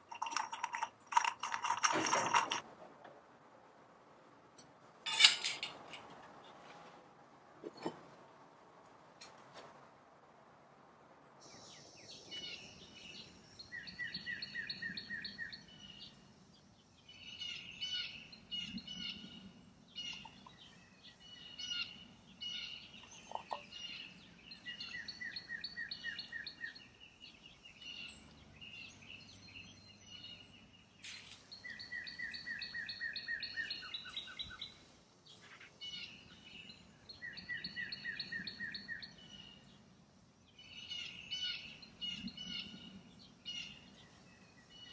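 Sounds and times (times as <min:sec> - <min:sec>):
songbirds trilling and chirping: 0:00.0 - 0:02.6, 0:11.3 - 0:44.9.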